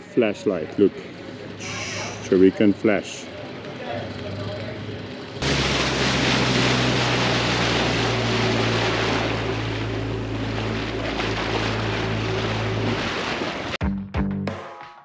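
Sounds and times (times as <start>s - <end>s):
outboard motor running: 0.2s - 13.8s.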